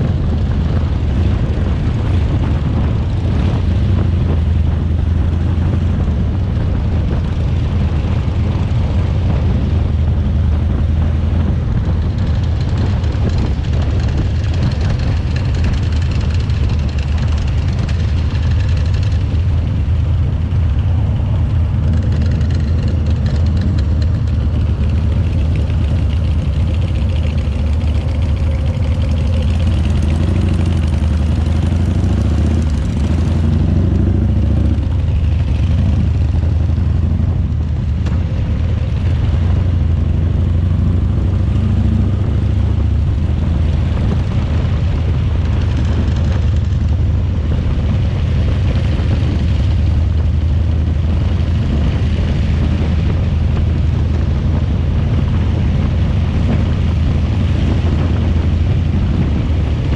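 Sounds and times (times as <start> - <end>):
motorcycle engine rumble: 0.0 - 59.9
wind noise: 0.0 - 59.9.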